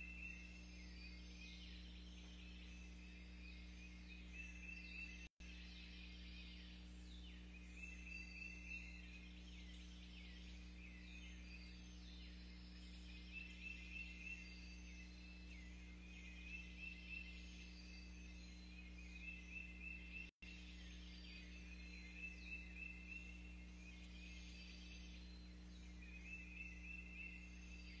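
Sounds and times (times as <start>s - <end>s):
birds singing faintly: 0.0s - 28.0s
low steady hum: 0.0s - 28.0s.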